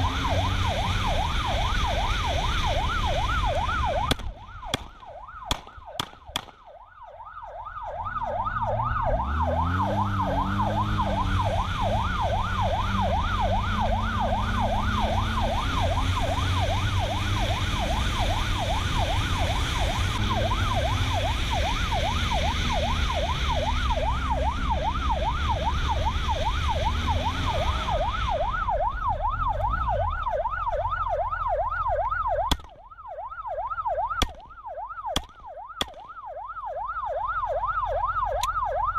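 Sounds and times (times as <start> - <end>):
car engine and road noise: 0.0 - 38.9
police siren yelping: 0.0 - 38.9.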